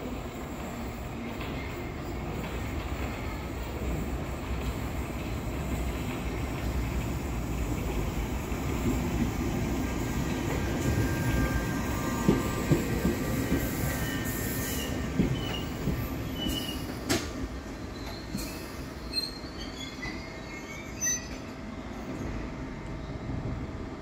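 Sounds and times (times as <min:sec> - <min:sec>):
train rumbling and slowing: 0:00.0 - 0:24.0.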